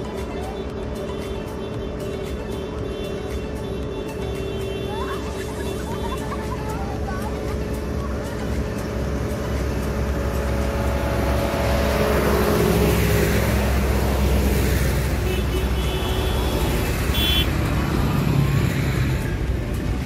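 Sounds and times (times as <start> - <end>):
tractor diesel engines passing: 0.0 - 20.0.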